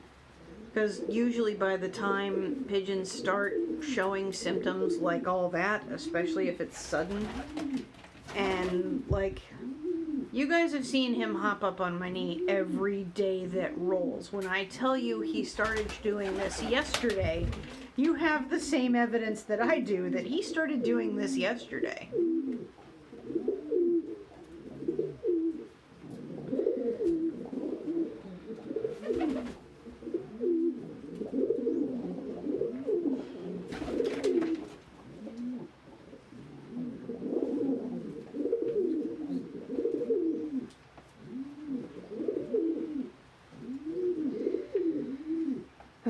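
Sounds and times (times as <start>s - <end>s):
pigeons cooing: 0.0s - 10.4s, 15.3s - 18.0s, 20.3s - 45.8s.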